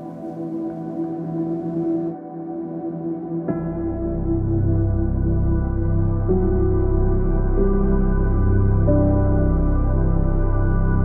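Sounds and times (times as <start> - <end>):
ambient drone music: 0.0 - 11.0.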